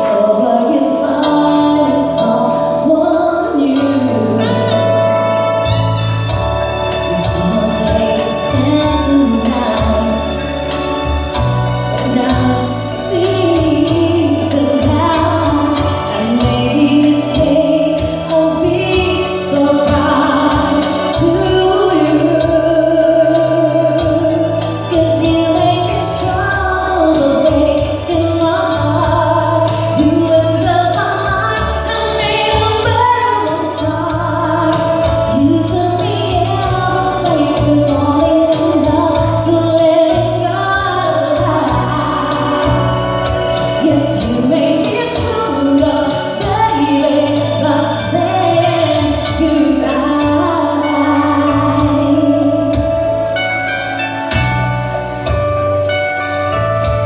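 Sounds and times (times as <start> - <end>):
electronic keyboard chords: 0.0 - 57.0
woman singing into a microphone: 0.0 - 57.0.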